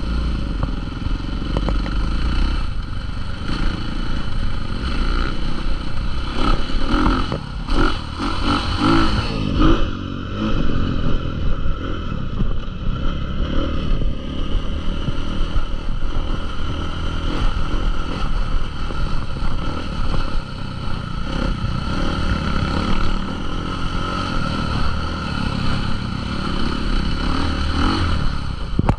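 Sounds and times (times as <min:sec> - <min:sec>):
dirt bike engine running: 0:00.0 - 0:28.9.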